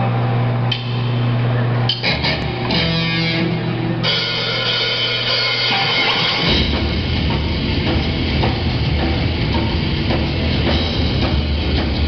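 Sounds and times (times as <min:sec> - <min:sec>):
live rock band playing: 0:01.9 - 0:12.0.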